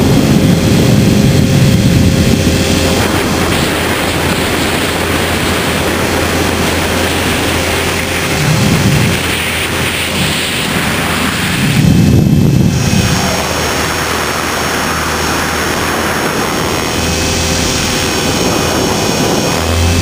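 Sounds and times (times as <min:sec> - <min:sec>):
rc helicopter rotor and motor whine: 0:00.0 - 0:20.0.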